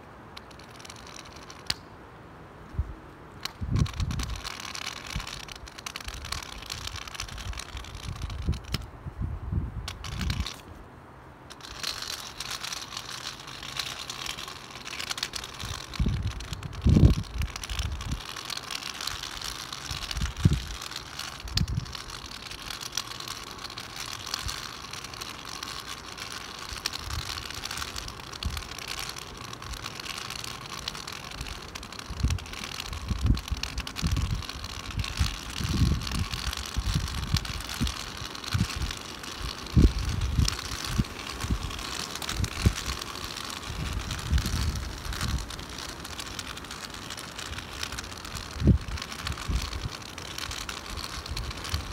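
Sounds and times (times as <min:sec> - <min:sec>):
wind buffeting microphone: 0:02.8 - 0:10.6, 0:14.9 - 0:25.3, 0:25.9 - 0:51.9.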